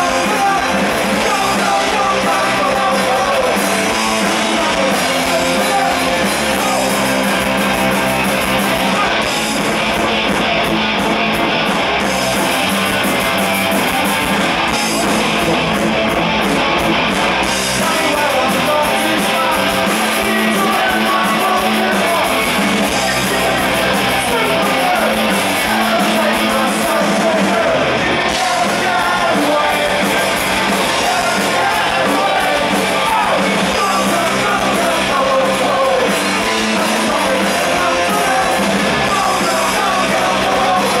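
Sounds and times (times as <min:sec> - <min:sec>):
lead vocal singing: 0:00.0 - 0:09.8, 0:17.5 - 0:41.0
punk rock band playing live: 0:00.0 - 0:41.0.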